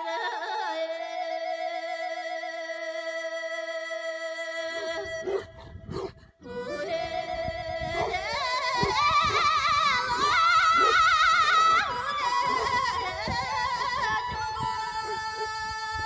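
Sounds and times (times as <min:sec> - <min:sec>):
high voice singing wavering notes: 0:00.0 - 0:16.0.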